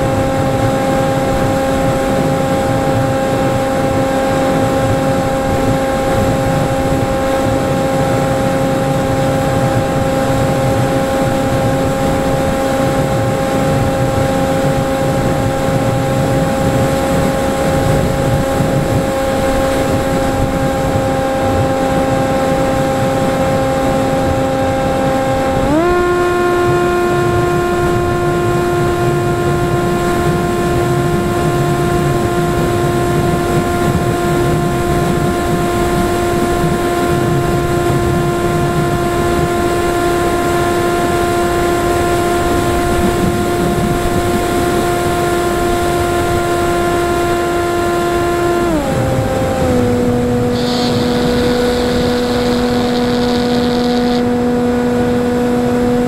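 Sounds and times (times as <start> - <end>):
wind rushing: 0.0 - 55.4
electric motor and propeller whine: 0.0 - 56.0.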